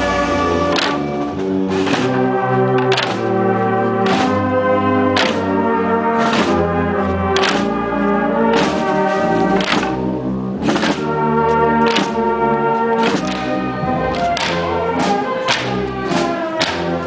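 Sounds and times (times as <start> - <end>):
percussion strokes: 0.0 - 5.6, 8.5 - 17.0
brass band playing a march: 0.0 - 17.0.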